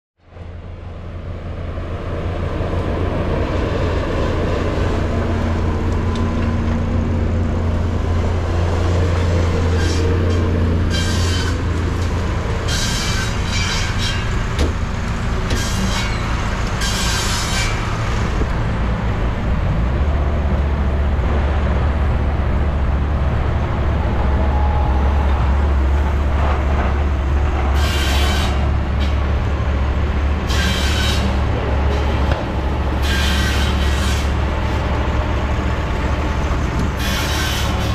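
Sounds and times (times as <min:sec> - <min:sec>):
sawmill low drone: 0:00.2 - 0:37.9.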